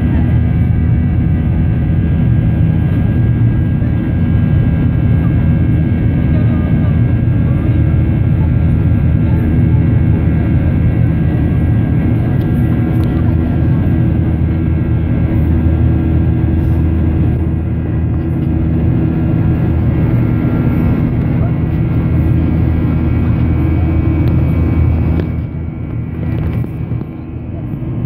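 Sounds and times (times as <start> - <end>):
jet engine low rumble: 0.0 - 28.0
steady humming tones: 0.0 - 28.0.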